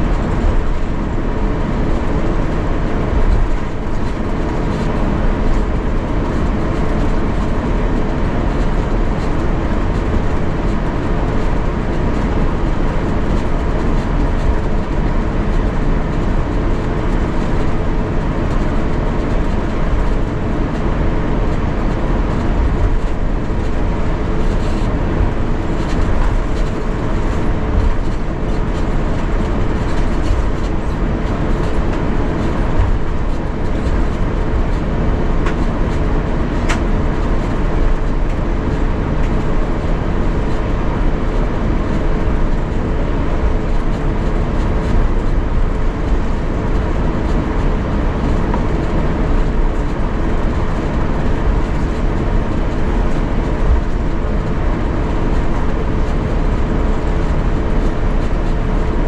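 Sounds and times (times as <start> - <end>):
wheels rumbling on taxiway: 0.0 - 59.0.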